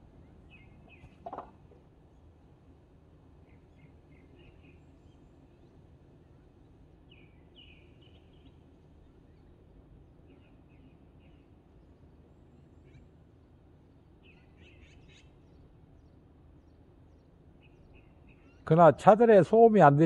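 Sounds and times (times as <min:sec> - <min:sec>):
faint songbird chirps: 0:00.0 - 0:20.0
low background rumble: 0:00.0 - 0:20.0.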